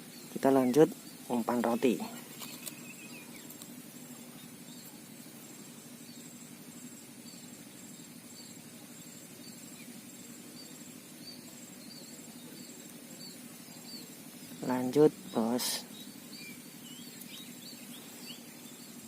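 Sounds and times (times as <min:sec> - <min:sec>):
low background noise: 0:00.0 - 0:19.0
pulsing insect trill: 0:00.0 - 0:19.0
small chirps: 0:00.0 - 0:19.0.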